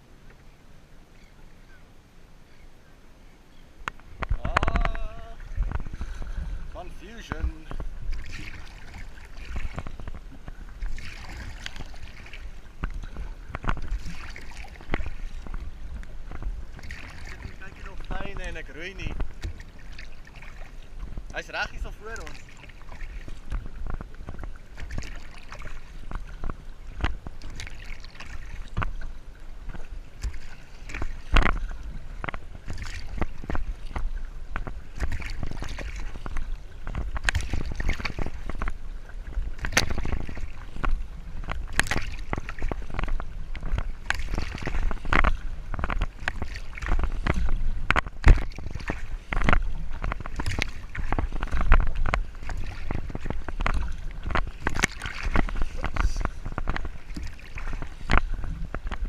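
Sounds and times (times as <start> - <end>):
water lapping against a hull: 0.0 - 59.0
low wind rumble on microphone: 3.7 - 59.0.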